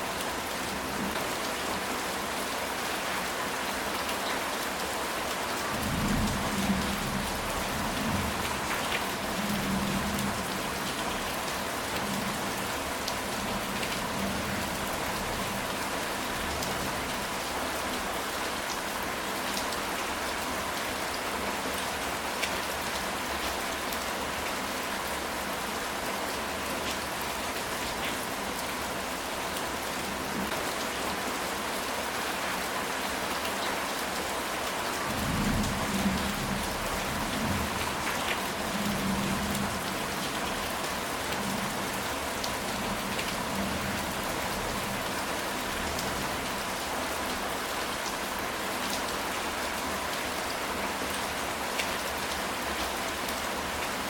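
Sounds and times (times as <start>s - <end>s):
rain on a tile roof: 0.0s - 54.0s.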